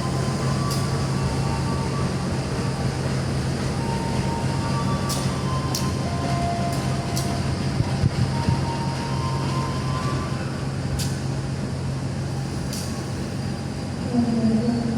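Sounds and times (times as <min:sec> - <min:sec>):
train hum and rumble: 0:00.0 - 0:14.9.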